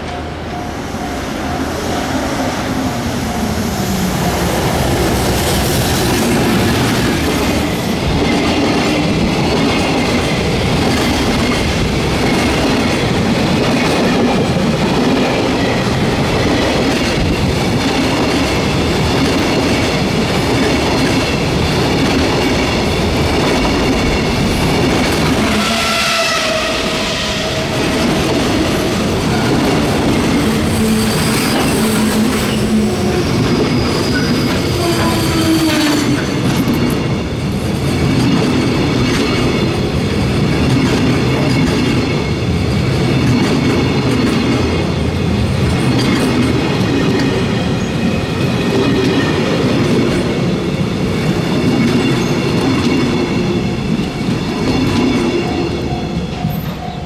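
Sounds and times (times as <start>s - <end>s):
freight wagons rumbling on rails: 0.0s - 57.0s.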